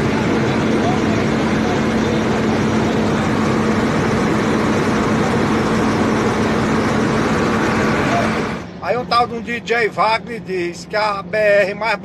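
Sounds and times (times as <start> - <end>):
low hum: 0.0 - 11.6
road noise: 0.0 - 12.0
truck engine drone: 0.0 - 12.0.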